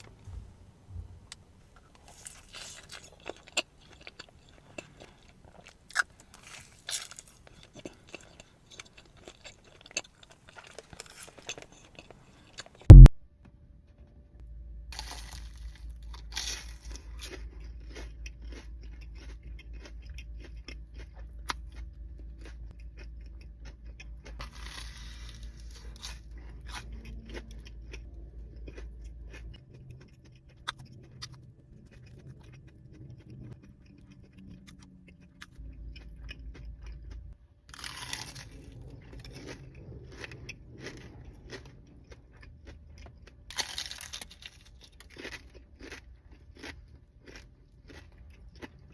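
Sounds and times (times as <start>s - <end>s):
chewing: 1.3s - 13.1s, 15.0s - 48.9s
crunching crispy food: 1.8s - 13.1s, 14.9s - 48.9s.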